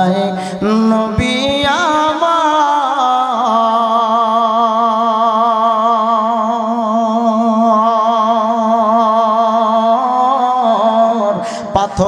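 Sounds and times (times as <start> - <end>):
man singing a long note: 0.0 - 12.0.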